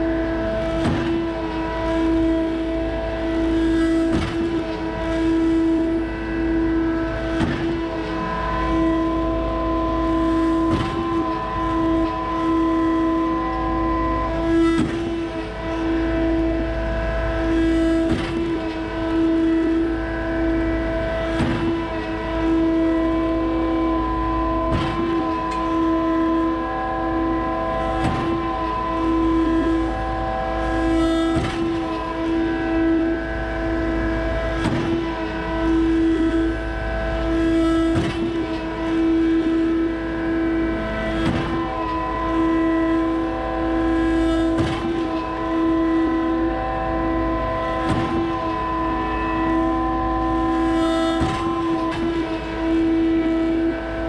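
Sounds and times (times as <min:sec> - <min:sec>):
hydraulic pump drone: 0:00.0 - 0:54.0.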